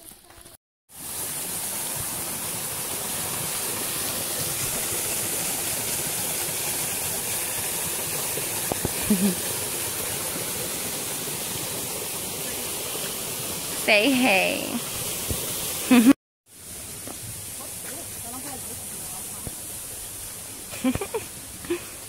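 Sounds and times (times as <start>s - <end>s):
creek water running over rocks: 0.0s - 22.0s.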